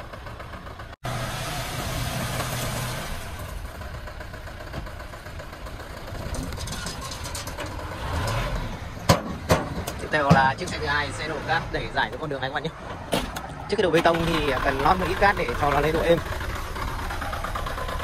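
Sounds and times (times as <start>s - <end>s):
truck engine running under load: 0.0s - 18.0s.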